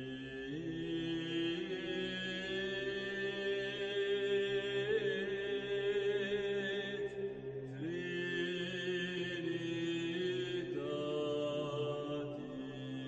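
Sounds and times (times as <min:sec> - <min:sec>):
slow vocal chant: 0:00.0 - 0:13.0.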